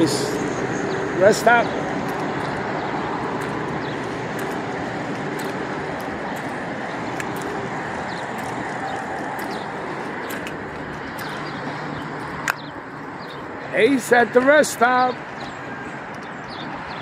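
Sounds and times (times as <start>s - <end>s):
faint engine hum: 0.0s - 14.6s
traffic rumble: 0.0s - 17.0s.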